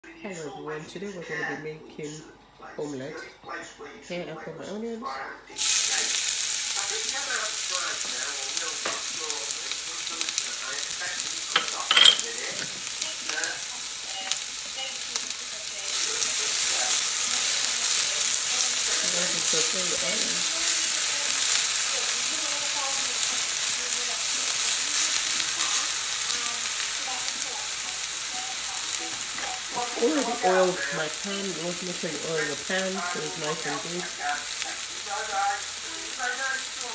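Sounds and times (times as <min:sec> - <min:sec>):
onions sizzling in hot oil: 0:05.5 - 0:36.9.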